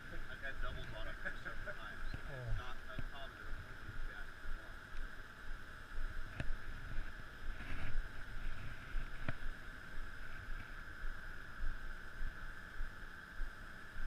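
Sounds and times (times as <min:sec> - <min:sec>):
steady high hum: 0:00.0 - 0:14.0
wind: 0:00.0 - 0:14.0.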